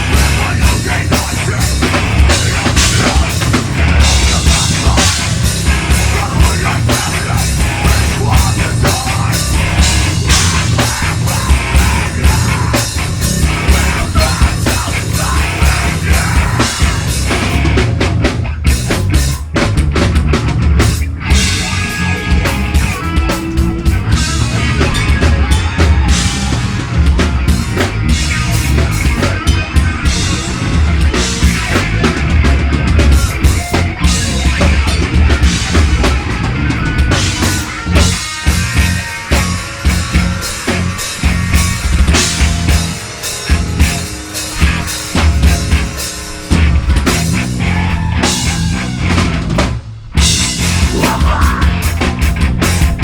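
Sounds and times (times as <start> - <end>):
live metal band playing: 0.0 - 53.0
pounding bass drum and snare: 0.0 - 53.0.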